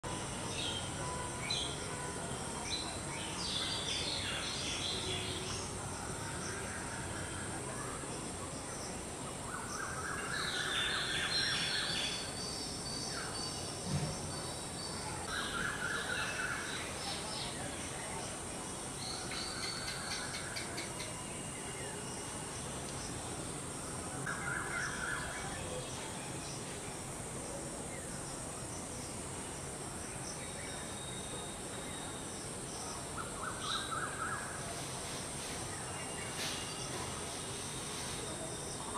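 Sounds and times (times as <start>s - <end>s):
insect drone: 0.1s - 38.9s.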